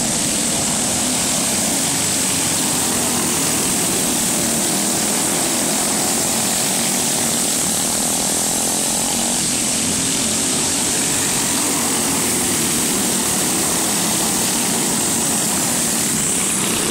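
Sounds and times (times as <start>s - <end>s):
go-kart engines racing past: 0.0s - 16.9s.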